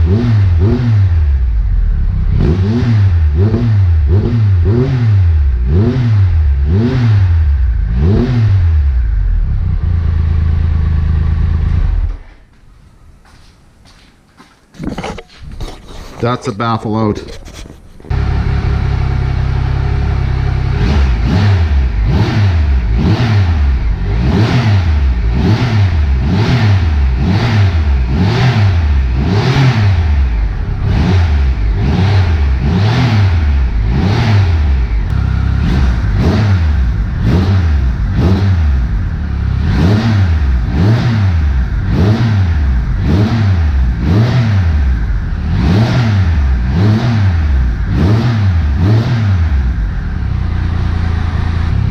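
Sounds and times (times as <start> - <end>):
motorcycle engine revving: 0.0 - 12.4, 18.1 - 51.9.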